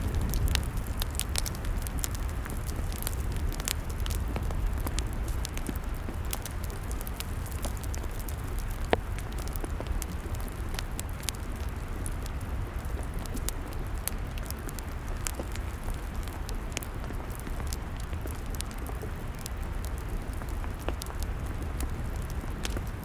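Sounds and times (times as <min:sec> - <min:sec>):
fire low rumble: 0:00.0 - 0:23.0
log fire crackling and popping: 0:00.0 - 0:23.0.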